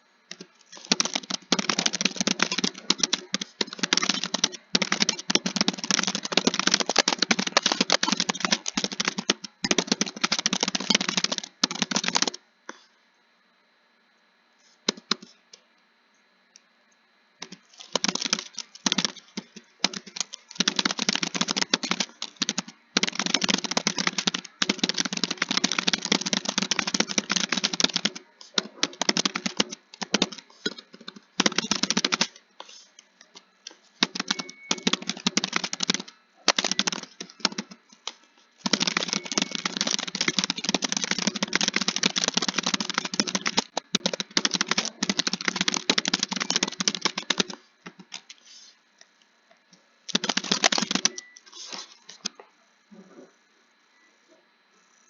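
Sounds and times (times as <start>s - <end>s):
fast typing on keyboard: 0.3s - 12.4s, 17.4s - 32.8s, 33.7s - 48.4s, 50.1s - 52.3s.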